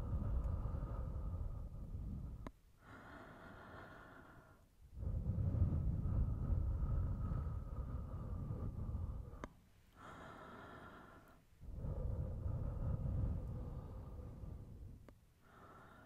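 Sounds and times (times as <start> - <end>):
breath blowing on microphone: 0.0 - 16.0
soft in-breath: 0.0 - 16.0.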